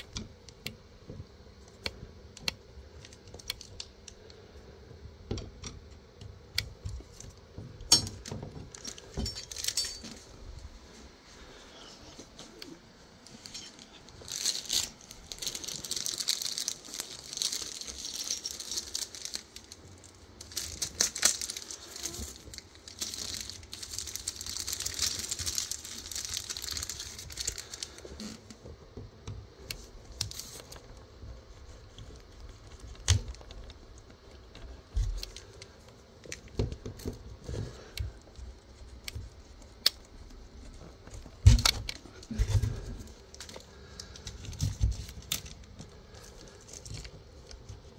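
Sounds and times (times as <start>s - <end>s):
crinkling and rustling: 0.0s - 47.9s.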